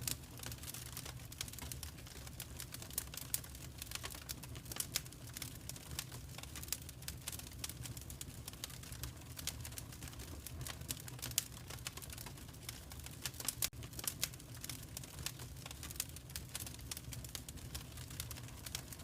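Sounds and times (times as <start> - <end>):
fire crackling: 0.0 - 19.0.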